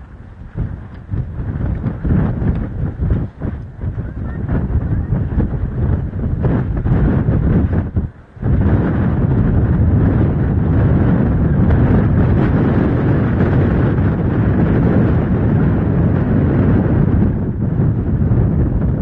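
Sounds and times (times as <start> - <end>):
wind blowing across microphone: 0.0 - 19.0.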